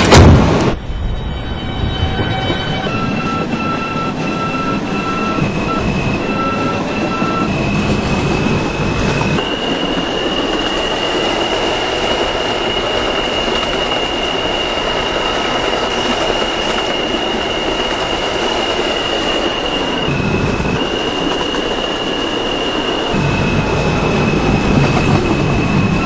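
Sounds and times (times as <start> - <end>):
high-pitched squeal: 0.0 - 26.0
train wheels rumbling on track: 0.0 - 26.0.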